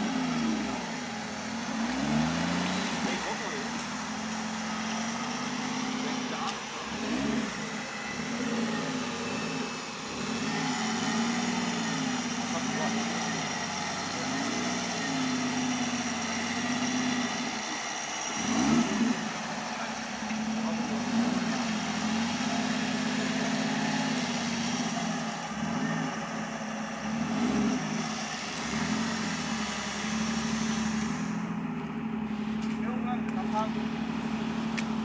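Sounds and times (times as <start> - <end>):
engine revving: 0.0 - 35.0.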